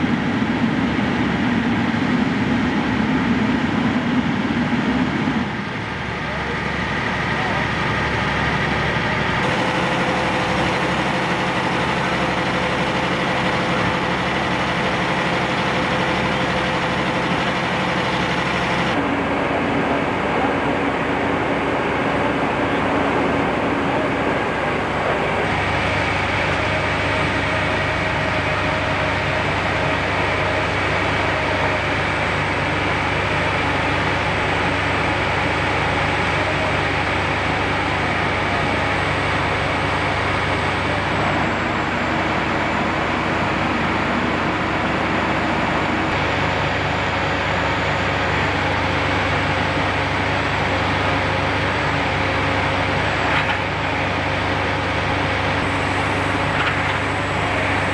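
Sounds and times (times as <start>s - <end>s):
large vehicle engine idling: 0.0s - 57.9s.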